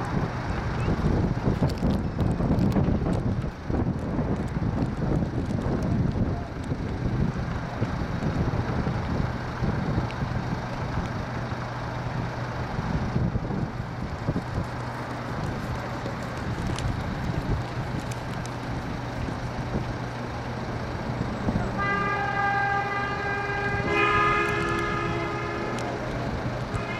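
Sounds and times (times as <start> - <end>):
low engine hum: 0.0 - 26.9
wind buffeting microphone: 0.0 - 26.9.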